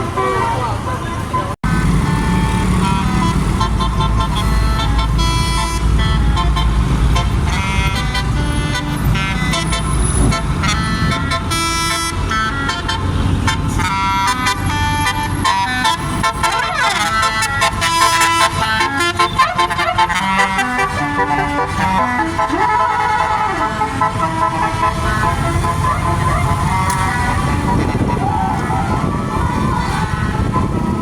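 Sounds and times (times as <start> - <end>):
multi-tone musical air horns: 1.4 - 31.0.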